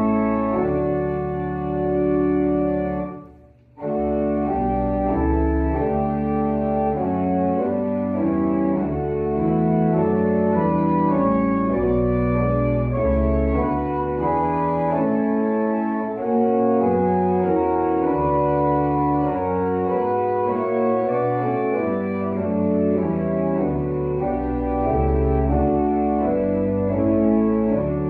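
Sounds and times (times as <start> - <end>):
organ playing sustained chords: 0.0 - 28.0.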